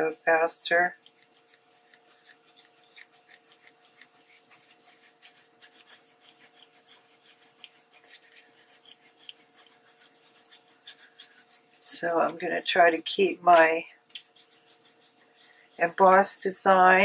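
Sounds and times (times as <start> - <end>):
damp cloth scrubbing paper: 0.0 - 17.0.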